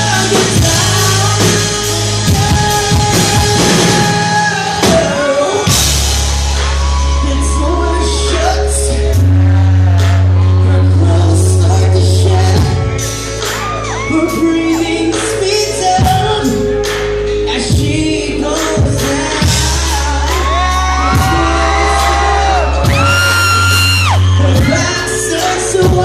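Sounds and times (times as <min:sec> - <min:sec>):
man singing: 0:00.0 - 0:05.9, 0:06.9 - 0:26.0
deep sustained bass: 0:00.0 - 0:26.0.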